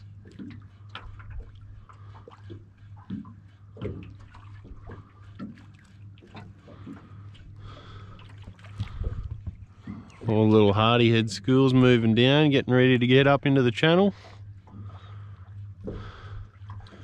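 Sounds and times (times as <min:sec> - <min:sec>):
wavelets lapping against boat hull: 0:00.0 - 0:12.4, 0:14.1 - 0:17.0
steady low hum: 0:00.0 - 0:17.0.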